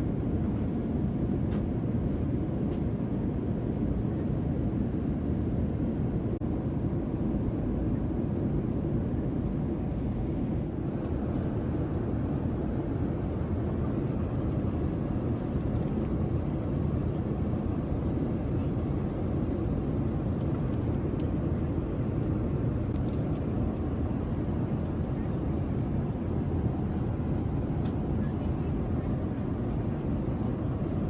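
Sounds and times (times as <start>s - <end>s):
airplane cabin engine roar: 0.0s - 31.0s.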